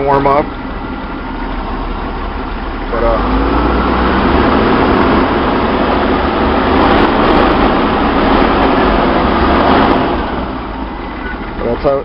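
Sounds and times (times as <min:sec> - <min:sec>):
car engine revving steadily: 0:00.0 - 0:12.0.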